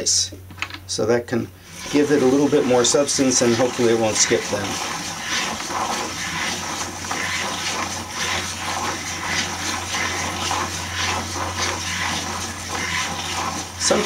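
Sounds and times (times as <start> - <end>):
gears and turntable turning: 1.6 - 14.0
pen rubbing over paper: 1.7 - 14.0.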